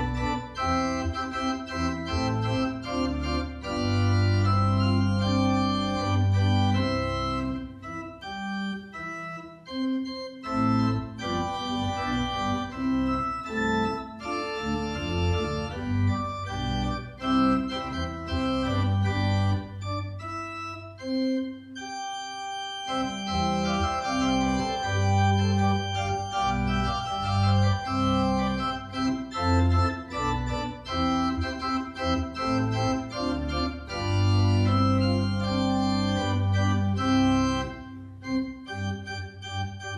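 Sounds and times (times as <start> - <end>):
organ chords: 0.0 - 39.9.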